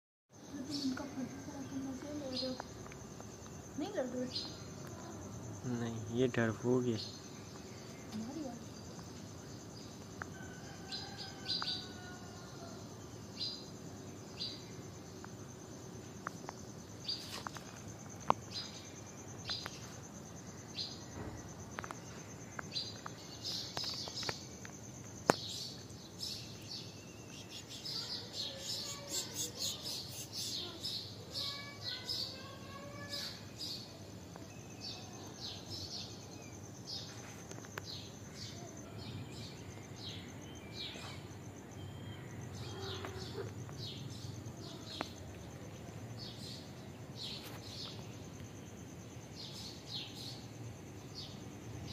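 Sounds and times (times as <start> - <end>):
small birds chirping: 0.4 - 51.9.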